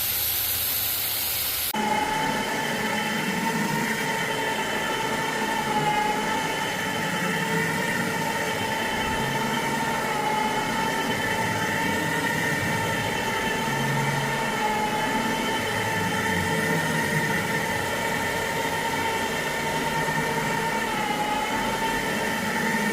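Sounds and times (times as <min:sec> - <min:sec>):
carpet cleaning machine whining: 0:00.0 - 0:22.9.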